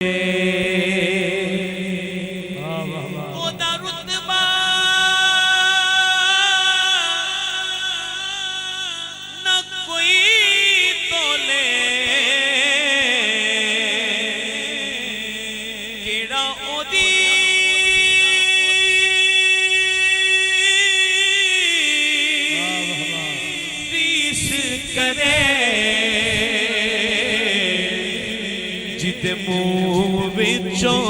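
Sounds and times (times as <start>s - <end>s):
man chanting: 0.0s - 31.0s.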